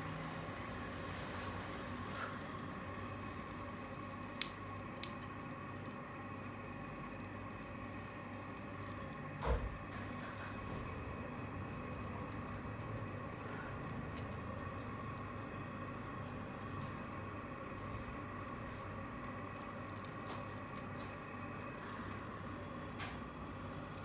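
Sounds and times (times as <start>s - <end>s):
steady torch hiss: 0.0s - 24.0s.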